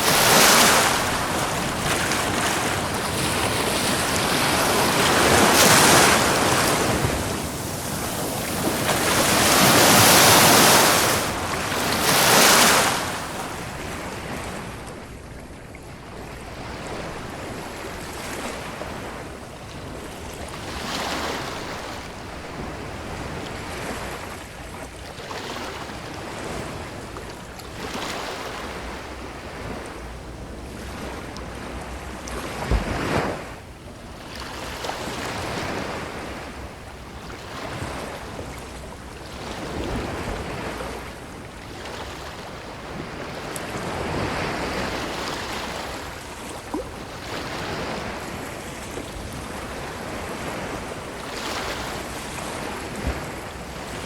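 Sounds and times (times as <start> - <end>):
ocean waves washing on beach: 0.0 - 54.0
wind noise on microphone: 0.0 - 54.0.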